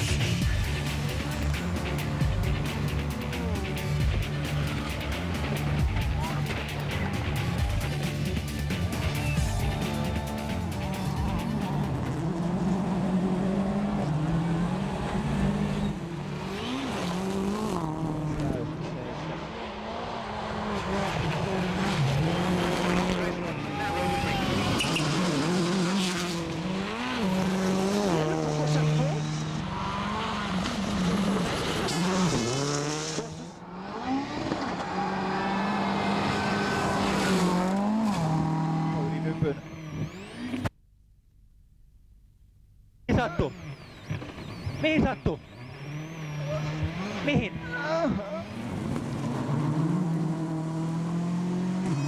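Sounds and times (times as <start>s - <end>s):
rally car engine revving: 0.0s - 40.7s, 43.1s - 52.0s.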